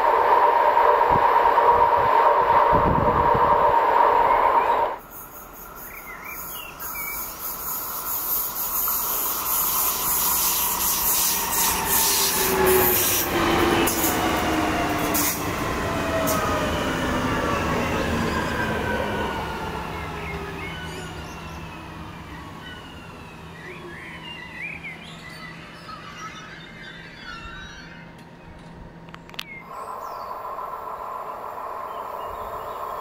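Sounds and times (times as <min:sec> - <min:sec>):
train wheels on rails: 0:00.0 - 0:24.2, 0:28.1 - 0:33.0
electric train whine: 0:00.0 - 0:33.0
loud train sound: 0:00.0 - 0:33.0.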